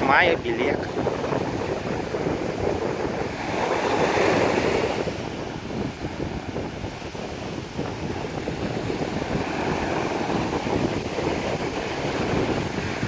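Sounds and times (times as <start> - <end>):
waves washing onto sandy beach: 0.0 - 13.0
wind buffeting microphone: 0.0 - 13.0.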